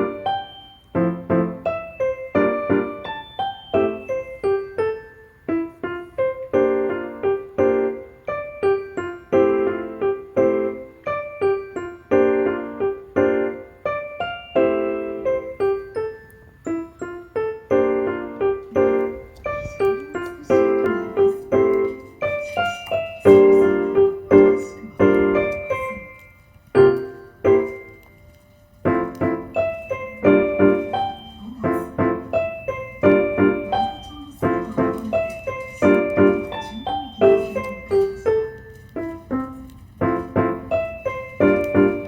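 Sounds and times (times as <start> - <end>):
gentle piano music: 0.0 - 42.0.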